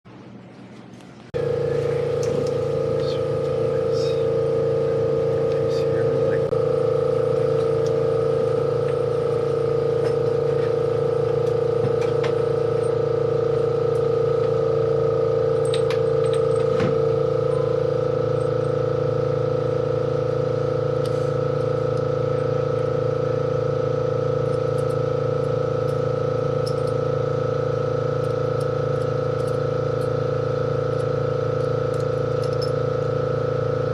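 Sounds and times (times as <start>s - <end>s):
machine humming steadily: 0.0s - 33.9s.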